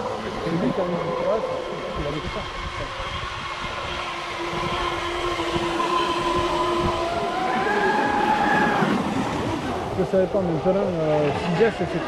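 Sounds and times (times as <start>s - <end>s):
model boat motor whine: 0.0s - 12.0s.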